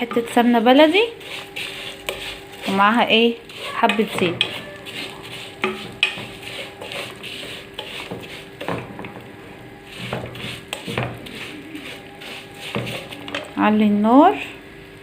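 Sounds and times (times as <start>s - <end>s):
spoon stirring in a pot: 0.0s - 13.6s.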